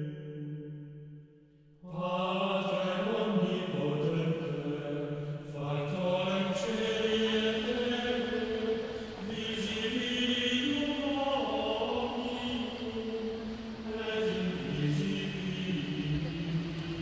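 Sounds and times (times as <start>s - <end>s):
chanted singing voices: 1.8s - 17.0s.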